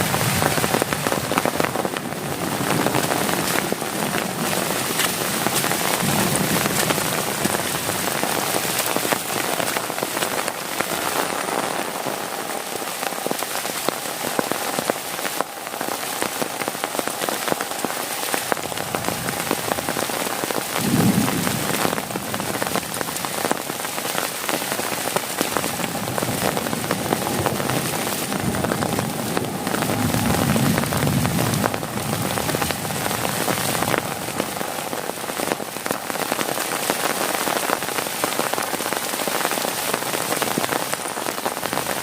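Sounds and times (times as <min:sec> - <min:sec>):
heavy rain on a tent: 0:00.0 - 0:42.0.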